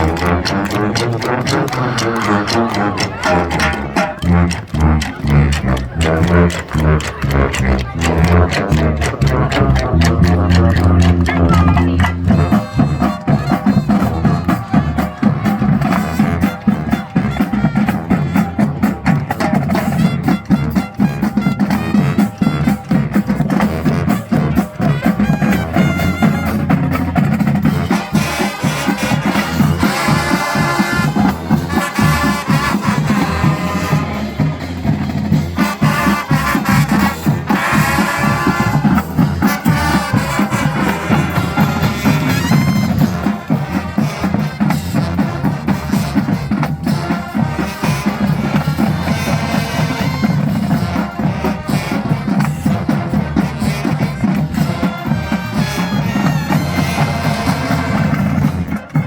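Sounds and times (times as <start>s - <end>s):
brass playing: 0.0s - 59.0s
drumline beat: 0.0s - 59.0s.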